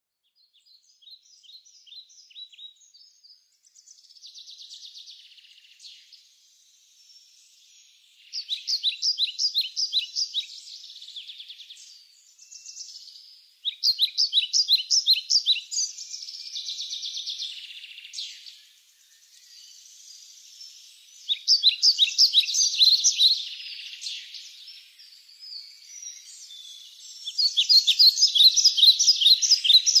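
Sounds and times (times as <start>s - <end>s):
birds chirping: 0.7s - 30.0s.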